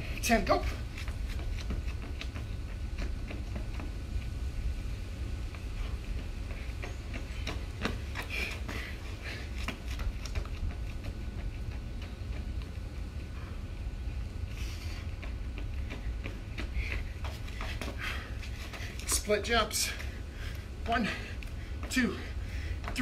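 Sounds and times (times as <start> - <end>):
footsteps on concrete: 0.0 - 23.0.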